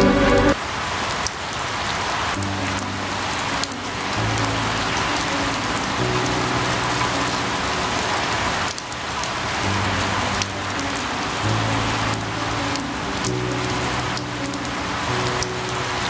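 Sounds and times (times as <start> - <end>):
soft background music: 0.0 - 0.6, 2.4 - 16.0
steady rain hiss: 0.0 - 16.0
rain drop ticks: 1.1 - 16.0.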